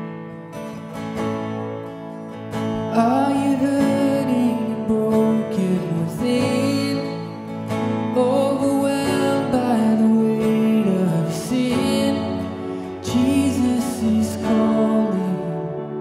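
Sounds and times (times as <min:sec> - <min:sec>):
acoustic guitar: 0:00.0 - 0:16.0
man singing: 0:02.8 - 0:16.0.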